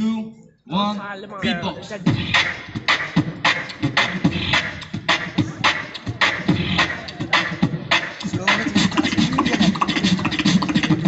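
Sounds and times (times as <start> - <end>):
amplified beatboxing: 1.4 - 11.0.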